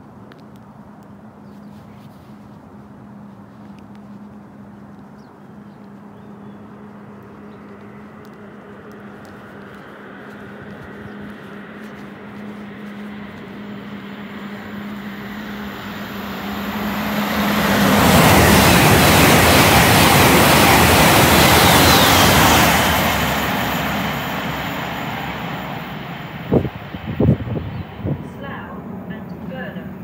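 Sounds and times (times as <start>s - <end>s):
express train passing at speed: 5.5s - 30.0s.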